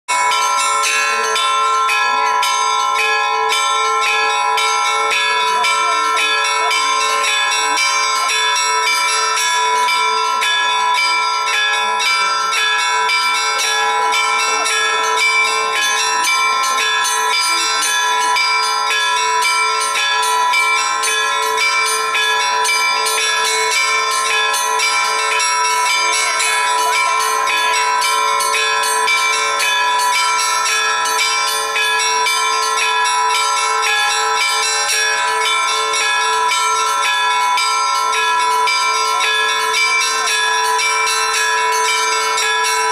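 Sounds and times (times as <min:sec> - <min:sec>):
small church bells ringing rapidly: 0:00.0 - 0:42.9
large bells humming: 0:00.1 - 0:42.9.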